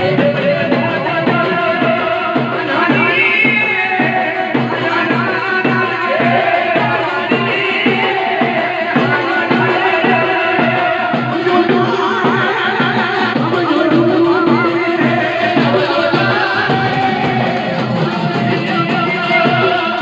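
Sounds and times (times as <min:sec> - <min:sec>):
dhol drum beating: 0:00.0 - 0:20.0.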